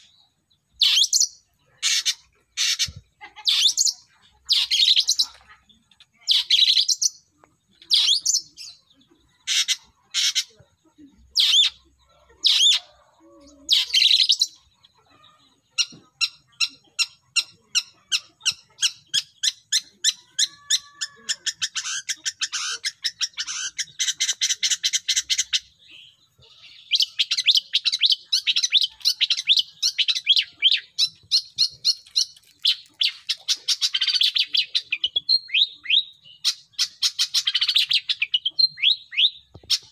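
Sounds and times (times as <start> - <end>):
harsh bird calls: 0.0 - 39.9
rapid bird chattering: 0.0 - 39.9
varied bird song: 0.0 - 39.9.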